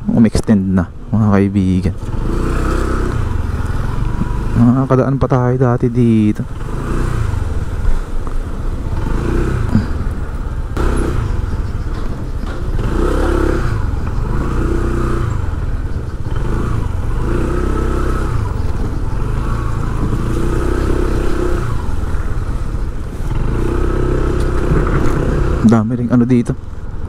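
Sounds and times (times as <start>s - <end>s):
street traffic engine and road noise: 0.0s - 27.0s.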